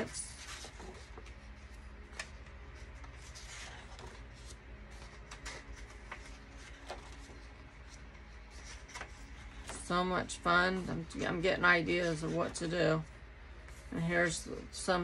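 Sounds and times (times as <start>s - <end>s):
cardstock sheets rustling: 0.0s - 13.1s.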